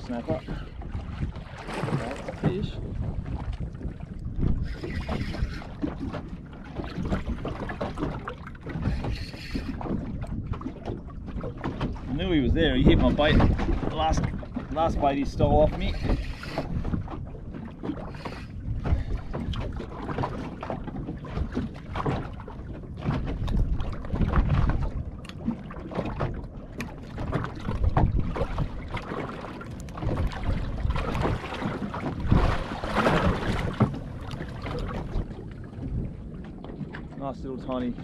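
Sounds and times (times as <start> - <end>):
water swell around boat: 0.0 - 38.0
wind buffeting microphone: 0.0 - 38.0.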